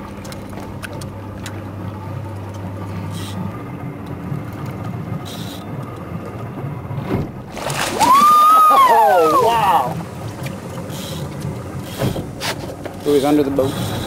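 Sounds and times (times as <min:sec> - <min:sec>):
boat motor idling: 0:00.0 - 0:14.0
water noise: 0:00.0 - 0:14.0
wind: 0:00.0 - 0:14.0.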